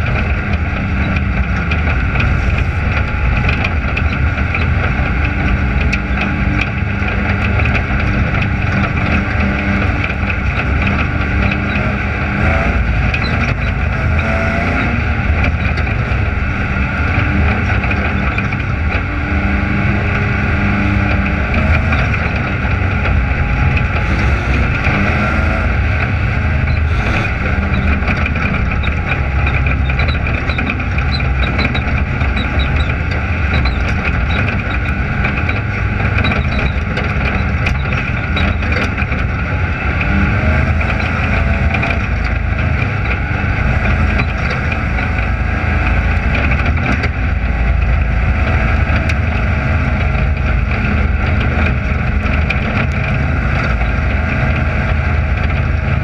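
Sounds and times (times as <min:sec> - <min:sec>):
race car engine running steadily: 0:00.0 - 0:56.0.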